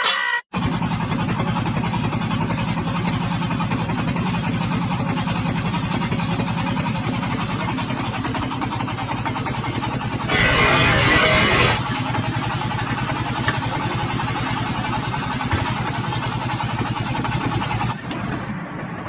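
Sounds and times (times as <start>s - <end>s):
engine running with fast pulse: 0.6s - 19.0s.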